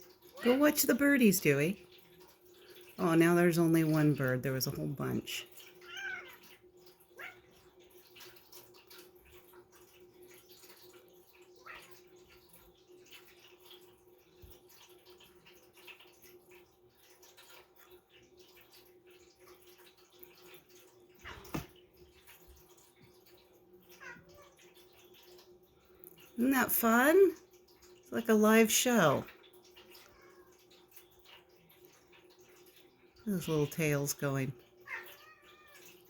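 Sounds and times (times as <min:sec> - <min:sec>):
faint rain patter: 0:00.0 - 0:36.0
small drips: 0:00.0 - 0:36.0.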